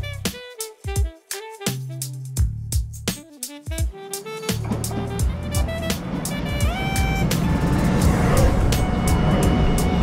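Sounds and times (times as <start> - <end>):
drum beat: 0.0 - 10.0
instrumental background music: 0.0 - 10.0
bass line: 2.0 - 10.0.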